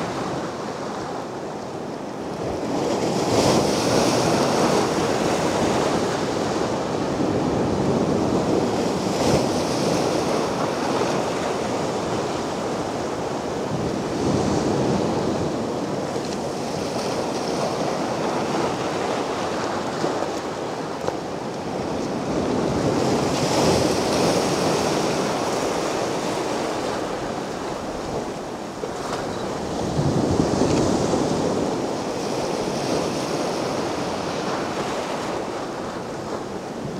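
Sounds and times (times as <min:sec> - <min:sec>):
sea waves breaking on beach: 0:00.0 - 0:36.9.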